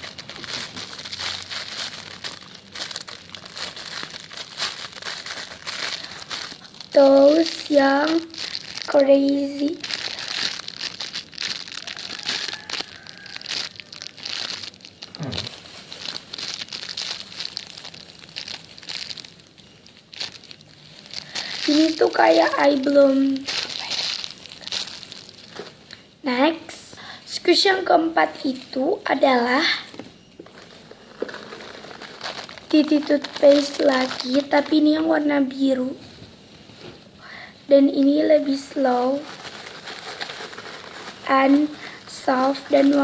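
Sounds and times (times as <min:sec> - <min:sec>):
plastic crinkling and rustling: 0:00.0 - 0:26.1, 0:28.4 - 0:37.2, 0:37.9 - 0:43.0.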